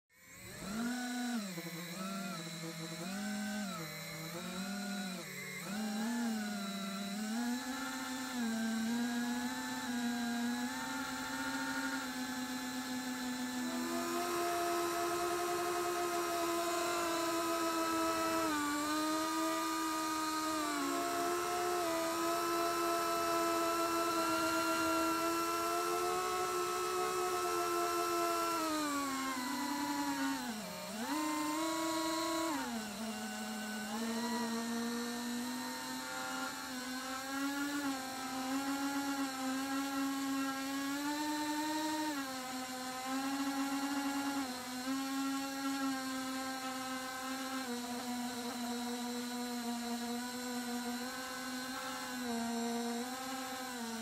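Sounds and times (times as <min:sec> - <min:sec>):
quadcopter motors whining: 0:00.1 - 0:54.0.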